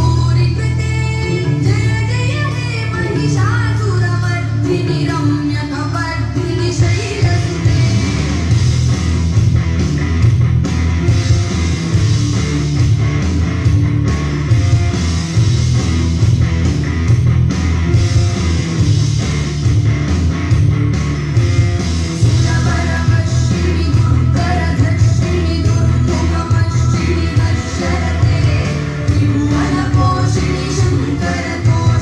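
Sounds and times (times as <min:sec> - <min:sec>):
loud music with bass and guitar: 0:00.0 - 0:32.0.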